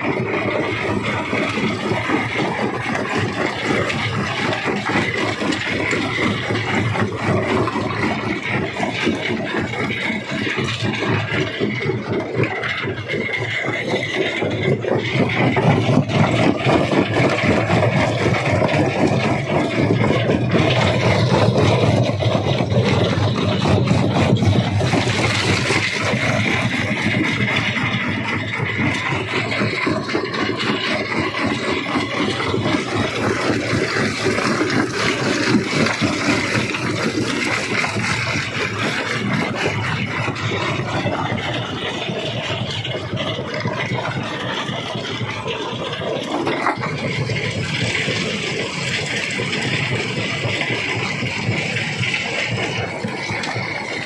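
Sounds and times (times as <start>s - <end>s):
rock rattling and knocking: 0.0s - 54.0s
stone crusher drone: 0.0s - 54.0s.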